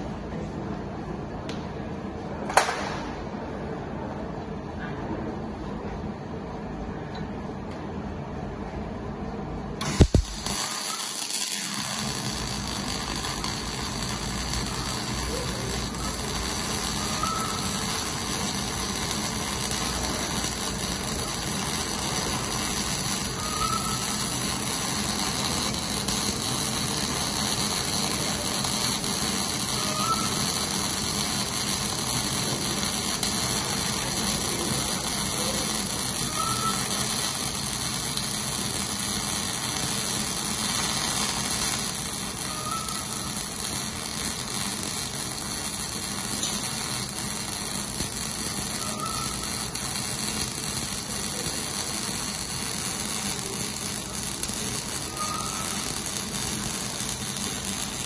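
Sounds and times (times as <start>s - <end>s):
arc welding: 9.8s - 58.0s.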